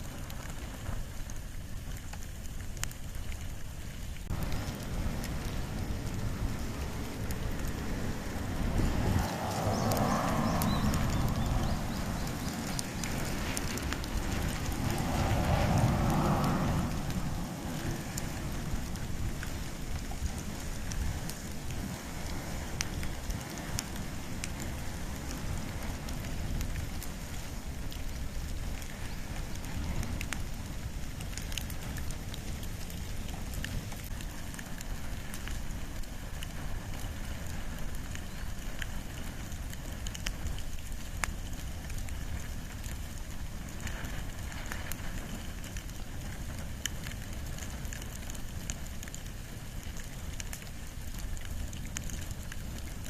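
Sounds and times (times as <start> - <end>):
wood and bamboo fire crackling: 0.0 - 53.0.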